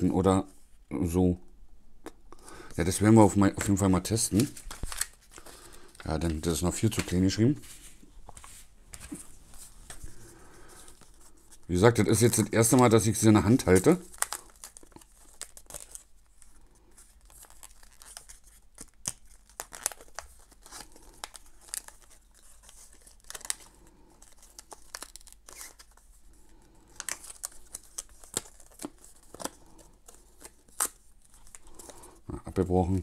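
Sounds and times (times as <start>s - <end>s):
packaging wrap crinkling: 3.5s - 32.2s.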